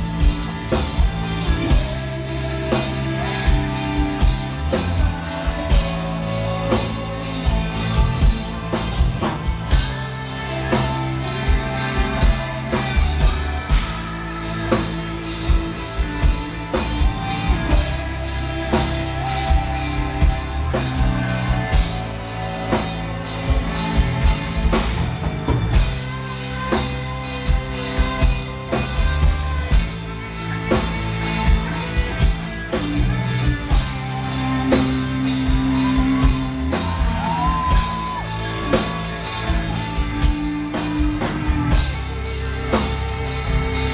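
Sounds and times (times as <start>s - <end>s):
metal band playing live: 0.0s - 43.9s
person singing: 0.0s - 43.9s.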